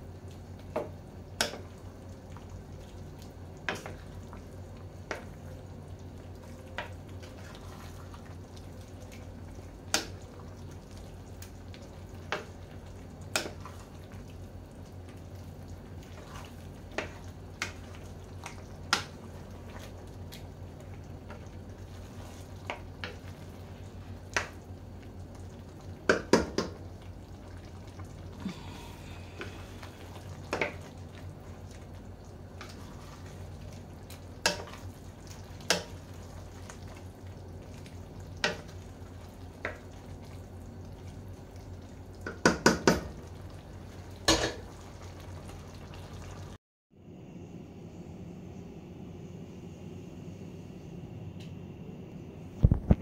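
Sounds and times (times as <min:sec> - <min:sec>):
steady low hum: 0:00.0 - 0:42.3, 0:43.1 - 0:53.0.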